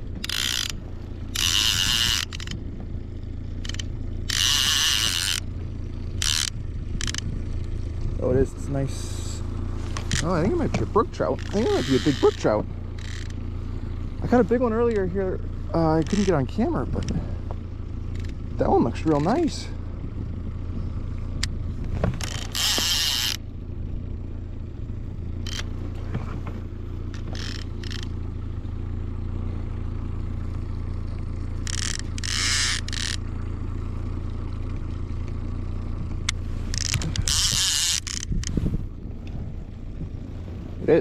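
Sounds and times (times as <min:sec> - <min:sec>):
boat motor humming: 0:00.0 - 0:41.0.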